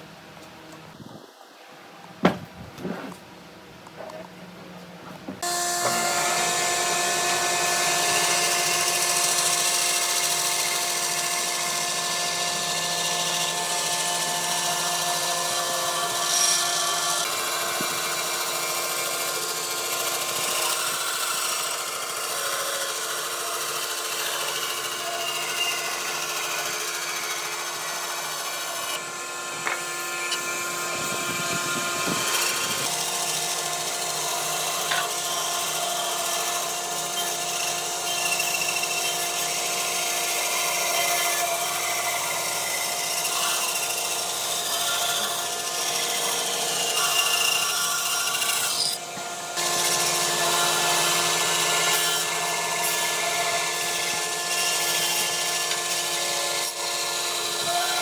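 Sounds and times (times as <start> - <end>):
power tool motor whine: 5.4 - 58.0.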